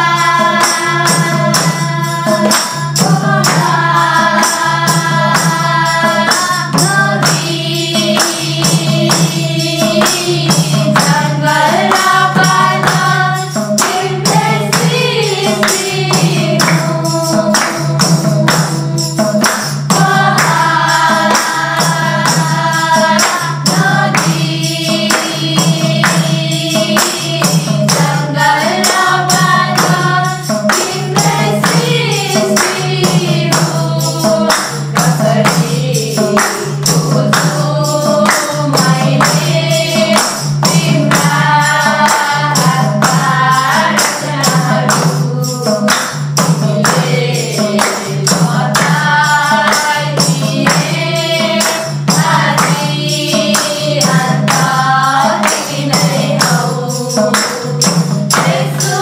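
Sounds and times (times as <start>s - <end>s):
group singing devotional song: 0.0s - 59.0s
hand drum: 0.0s - 59.0s
jingling tambourine: 0.0s - 59.0s
hand clapping: 0.4s - 59.0s.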